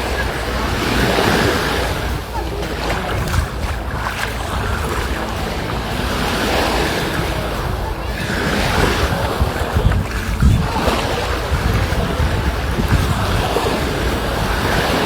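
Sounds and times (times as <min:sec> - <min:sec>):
sea surf washing ashore: 0:00.0 - 0:15.0
wind buffeting microphone: 0:00.0 - 0:15.0.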